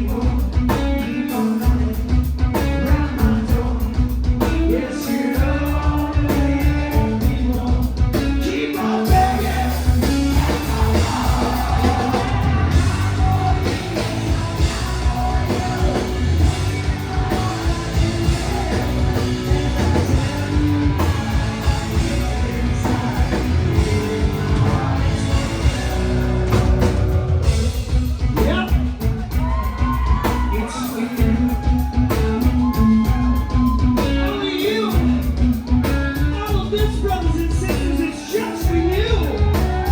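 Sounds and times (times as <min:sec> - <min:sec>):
person singing: 0:00.0 - 0:28.8, 0:29.4 - 0:35.2
electric guitars: 0:00.0 - 0:39.9
steady drum beat: 0:00.0 - 0:39.9.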